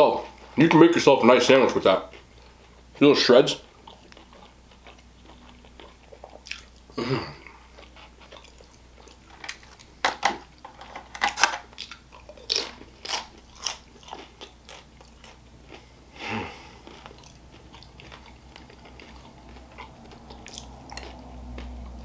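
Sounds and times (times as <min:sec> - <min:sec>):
tortilla chips crunching: 0:01.5 - 0:15.9, 0:16.5 - 0:22.0.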